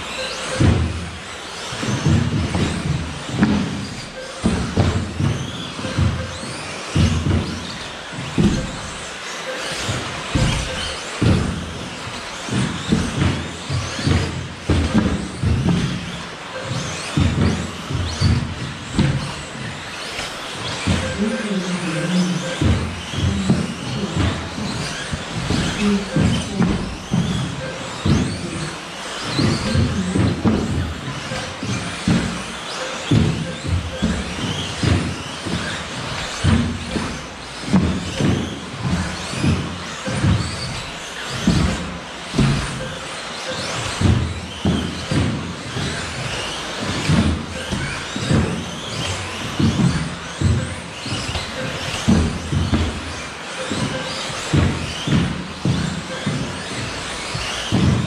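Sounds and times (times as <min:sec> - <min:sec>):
knocks and thumps of cars: 0:00.0 - 0:58.0
rc car motors whining: 0:00.0 - 0:58.0.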